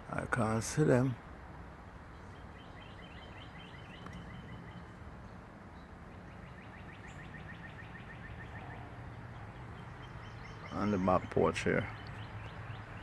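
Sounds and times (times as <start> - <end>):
birds chirping: 0.0 - 13.0
faint background noise: 0.0 - 13.0.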